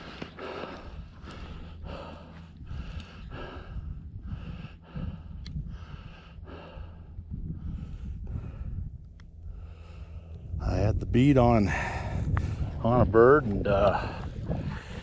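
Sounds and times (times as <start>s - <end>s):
person breathing hard: 0.0s - 10.6s, 11.6s - 12.8s, 13.9s - 15.0s
wind rumble on microphone: 0.0s - 15.0s.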